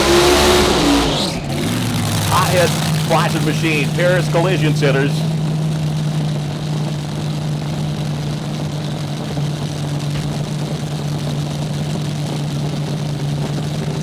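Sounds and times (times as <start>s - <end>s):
drag racing engines idling: 0.0s - 14.0s.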